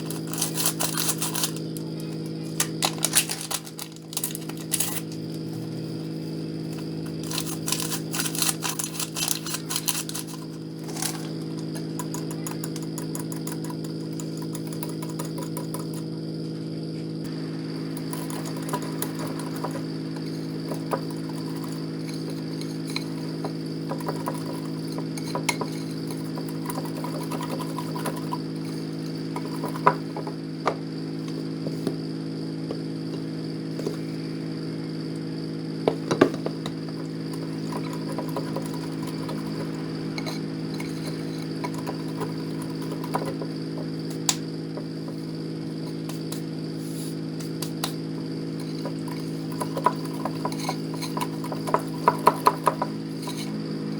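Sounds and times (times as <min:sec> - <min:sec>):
steady mechanical hum: 0:00.0 - 0:53.9.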